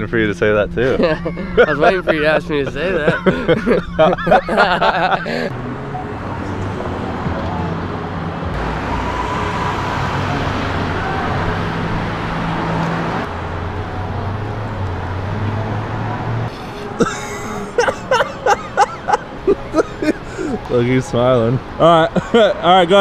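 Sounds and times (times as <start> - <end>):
rumble of road traffic: 0.0 - 23.0.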